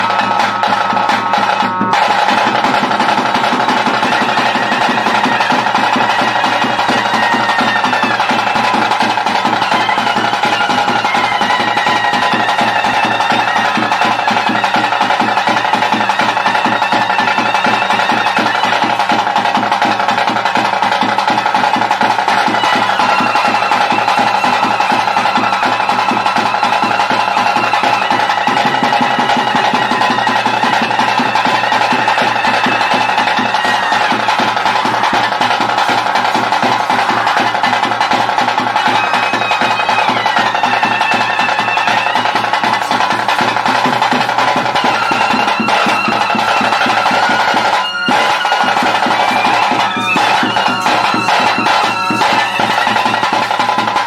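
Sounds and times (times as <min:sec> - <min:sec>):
fast dense drumming: 0:00.0 - 0:54.0
high wavering melody: 0:00.0 - 0:54.0.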